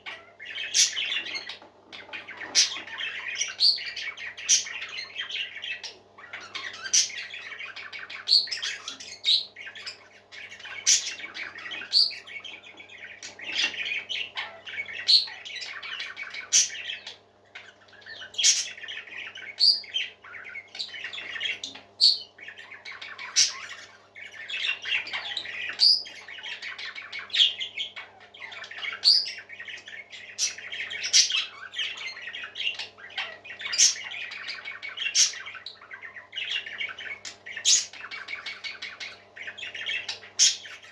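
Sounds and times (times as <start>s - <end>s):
faint steady hum: 0.0s - 40.9s
parakeets chattering: 0.0s - 40.9s.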